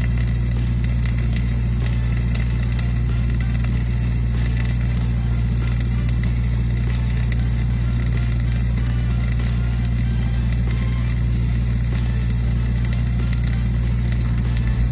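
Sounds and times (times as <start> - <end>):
welding arc crackling: 0.0 - 14.9
welding machine engine hum: 0.0 - 14.9.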